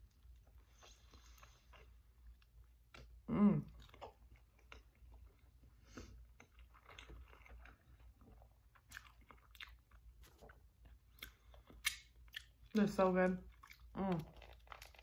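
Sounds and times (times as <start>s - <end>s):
person chewing food: 0.0s - 12.8s, 13.4s - 15.0s.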